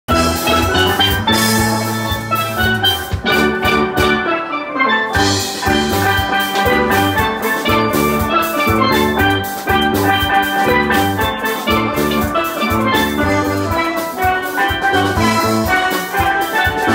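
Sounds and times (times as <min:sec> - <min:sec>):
bass line: 0:00.1 - 0:04.4, 0:05.2 - 0:14.0, 0:14.8 - 0:15.9
drum kit: 0:00.1 - 0:16.9
steel pan band playing: 0:00.1 - 0:16.9.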